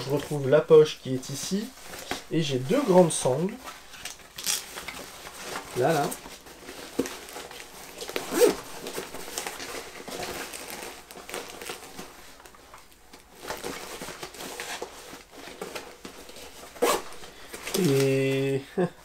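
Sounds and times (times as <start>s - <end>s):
fabric and straps rustling: 0.0s - 18.6s.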